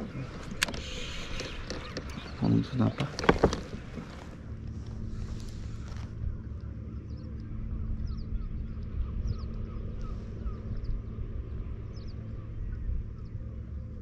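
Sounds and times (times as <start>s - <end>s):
birds chirping: 0.0s - 14.0s
wind: 0.0s - 14.0s.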